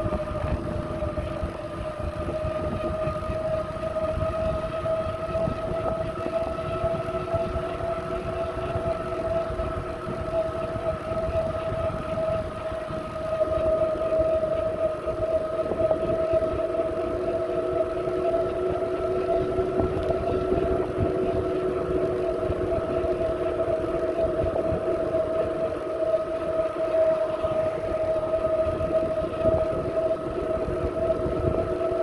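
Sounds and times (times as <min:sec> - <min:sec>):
low wind rumble: 0:00.0 - 0:32.0
steady wavering whine: 0:00.0 - 0:32.0.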